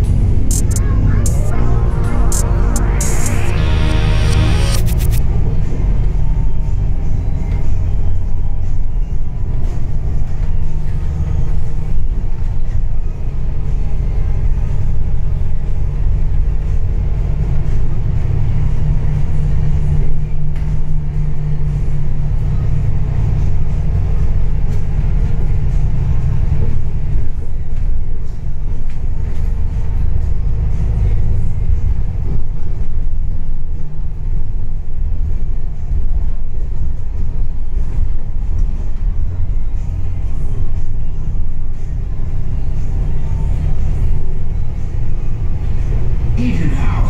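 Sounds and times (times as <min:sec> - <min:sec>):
bus engine running: 0:00.0 - 0:47.0.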